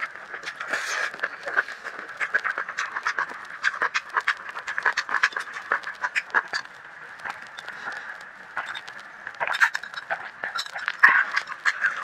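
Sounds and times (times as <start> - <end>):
mouth clicks and smacks: 0.0 - 12.0
wet chewing of noodles: 0.0 - 12.0.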